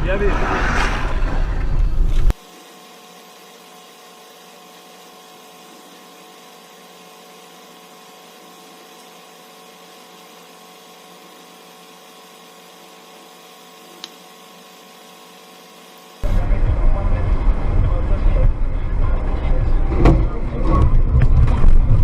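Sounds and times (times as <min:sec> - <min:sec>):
steady multi-tone hum: 0:00.0 - 0:22.0
loud car engine running: 0:01.1 - 0:22.0.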